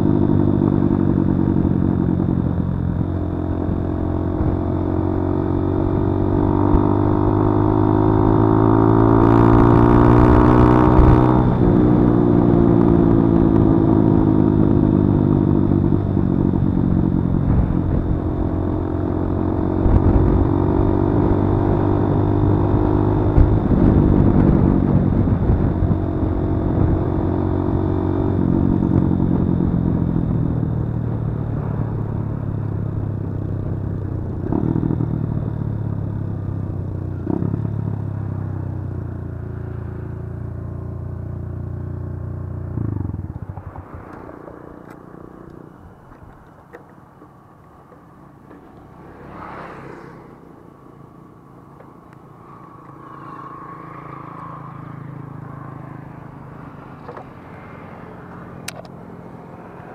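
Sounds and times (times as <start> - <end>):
motorcycle engine running: 0.0 - 59.9
outdoor ambience: 0.0 - 59.9.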